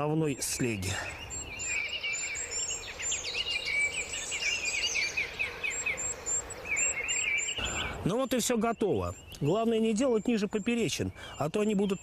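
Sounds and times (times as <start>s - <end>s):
songbirds chirping and trilling: 0.0s - 12.0s
steady background hiss: 0.0s - 12.0s.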